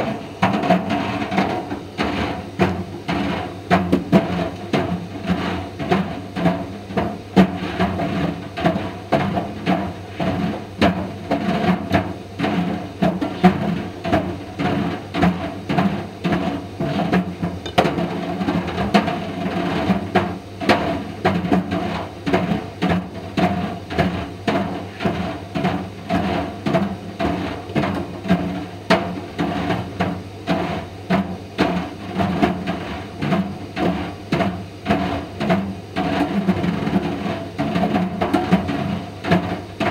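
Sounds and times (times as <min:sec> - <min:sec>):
dryer balls knocking against drum: 0:00.0 - 0:39.9.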